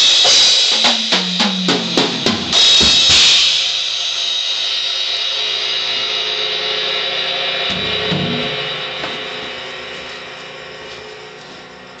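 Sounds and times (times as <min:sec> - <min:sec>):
cymbals ringing: 0:00.0 - 0:12.0.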